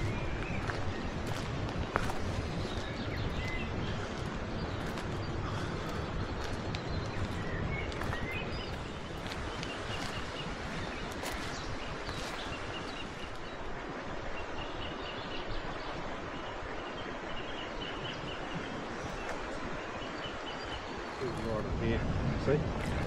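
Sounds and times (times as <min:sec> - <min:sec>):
small birds chirping: 0:00.0 - 0:13.7, 0:14.3 - 0:21.8
outdoor background noise: 0:00.0 - 0:23.0.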